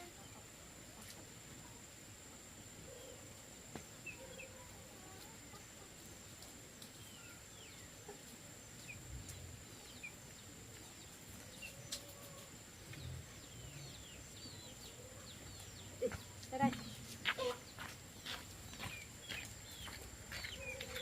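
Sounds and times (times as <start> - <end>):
small birds chirping: 2.5 - 21.0.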